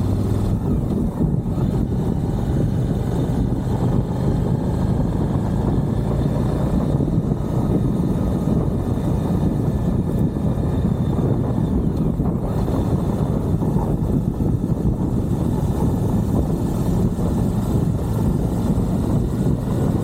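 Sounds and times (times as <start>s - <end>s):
motorcycle engine droning: 0.0s - 20.0s
road noise: 0.0s - 20.0s
rushing wind: 0.0s - 20.0s.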